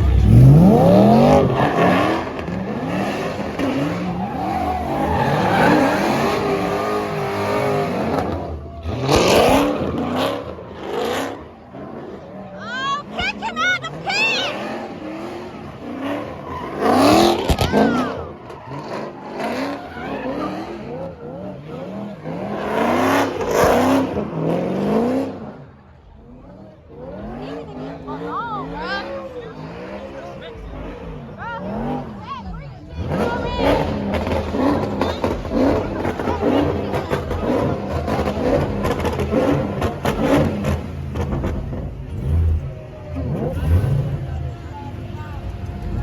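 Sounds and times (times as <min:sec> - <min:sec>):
car engine revving hard: 0:00.0 - 0:46.0.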